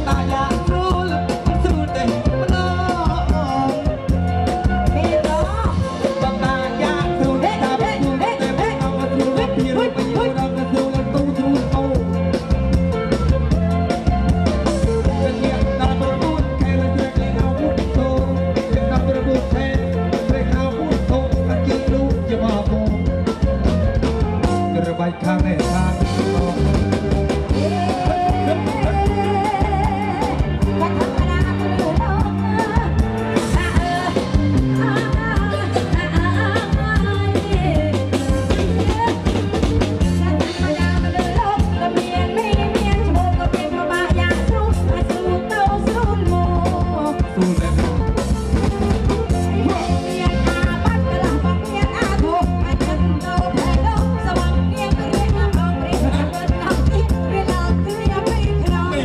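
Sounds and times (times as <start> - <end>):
woman singing: 0.0 - 24.5, 27.4 - 47.8, 49.2 - 59.0
drum kit beat: 0.0 - 59.0
live band music over loudspeakers: 0.0 - 59.0
man singing: 0.0 - 59.0.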